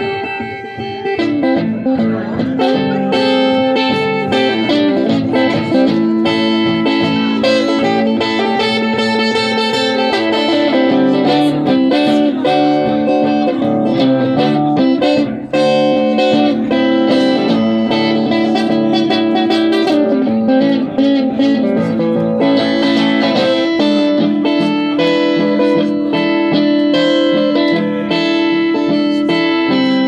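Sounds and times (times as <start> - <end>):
acoustic blues guitar: 0.0 - 30.0.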